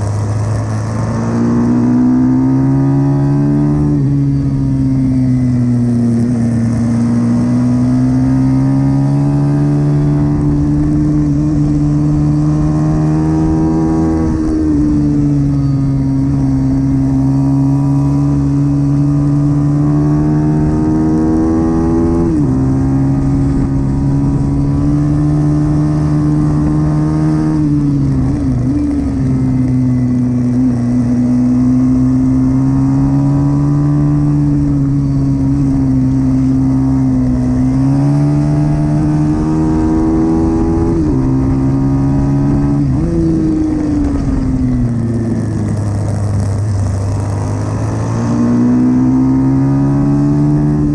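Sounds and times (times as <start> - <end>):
pit bike engine at high revs: 0.0 - 50.9.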